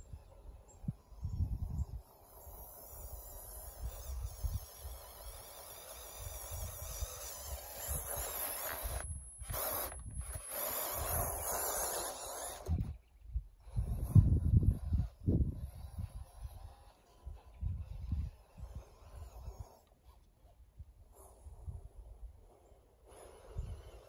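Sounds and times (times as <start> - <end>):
electric motor and gearbox whirring: 0.0 - 24.0.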